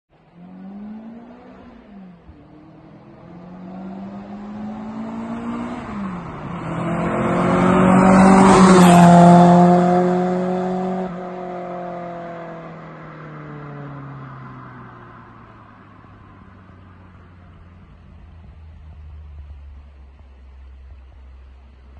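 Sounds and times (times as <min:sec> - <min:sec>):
car accelerating past: 0:00.2 - 0:20.2.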